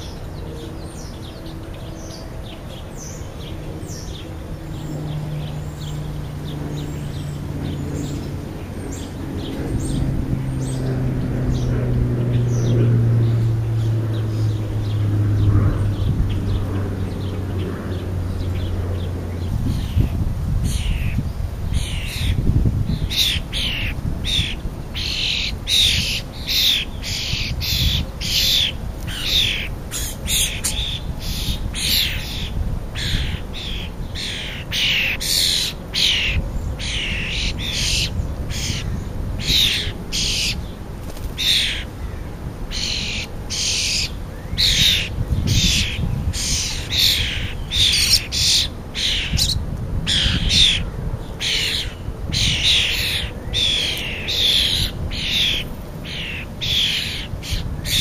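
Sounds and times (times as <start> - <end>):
young starlings begging calls: 0.0 - 58.0.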